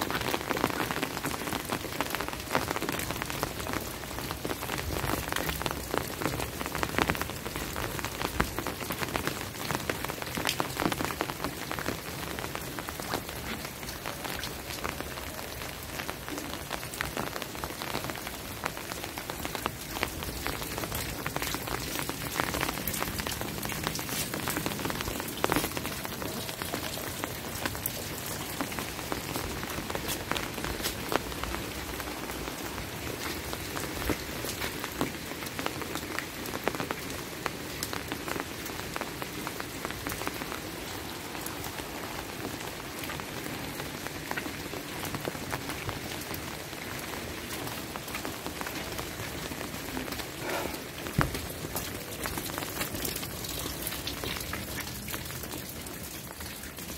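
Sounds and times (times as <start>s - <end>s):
close raindrop hits: 0.0s - 56.9s
steady rain hissing: 0.0s - 56.9s.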